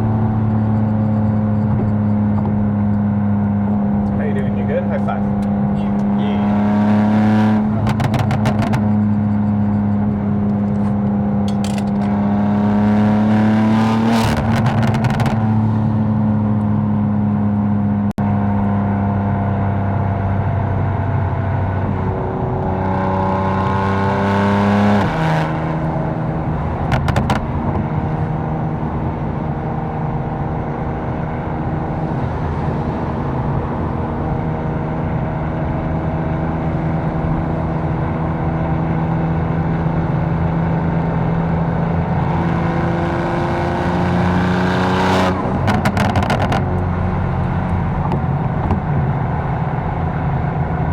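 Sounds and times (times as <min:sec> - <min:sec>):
car engine running: 0:00.0 - 0:19.6, 0:20.2 - 0:50.9.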